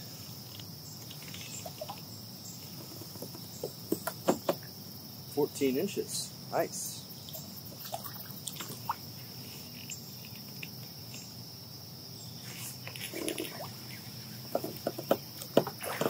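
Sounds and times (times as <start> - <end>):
cricket chorus chirring: 0.0 - 16.0.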